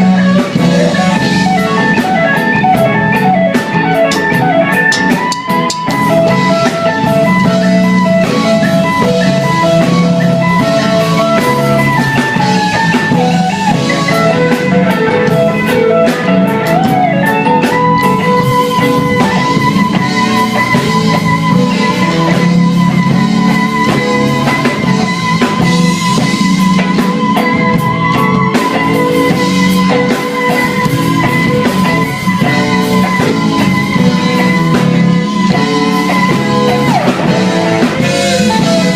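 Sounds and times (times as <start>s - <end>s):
drum kit beat: 0.0s - 38.9s
guitar: 0.0s - 38.9s.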